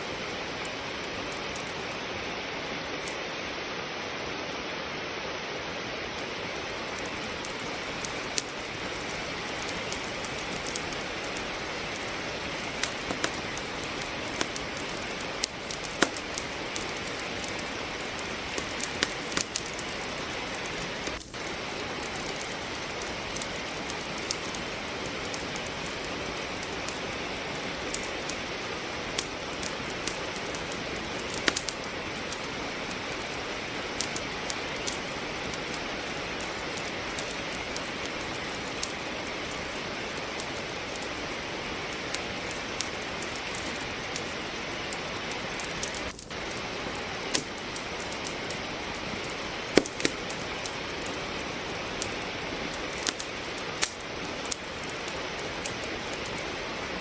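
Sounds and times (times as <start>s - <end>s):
steady rain: 0.0s - 57.0s
wood fire crackling: 0.0s - 57.0s.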